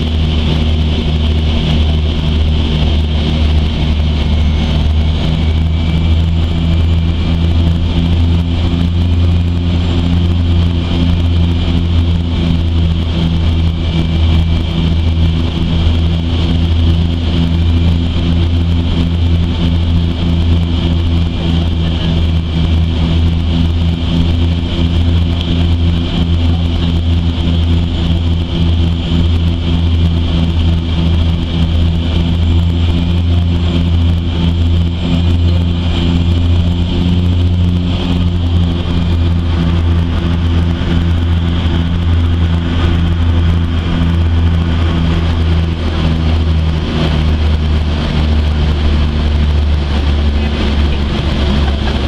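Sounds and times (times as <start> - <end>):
propeller aircraft cabin drone: 0.0 - 52.0.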